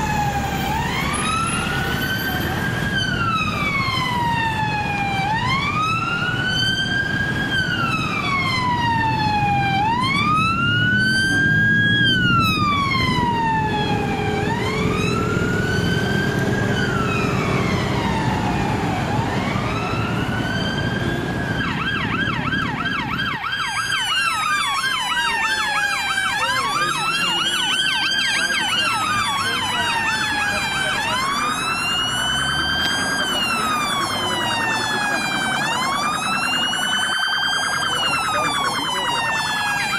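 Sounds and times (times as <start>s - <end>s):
fast warbling siren: 0.0s - 39.9s
police sirens wailing: 0.0s - 39.9s
vehicle engines rumbling: 0.0s - 39.9s.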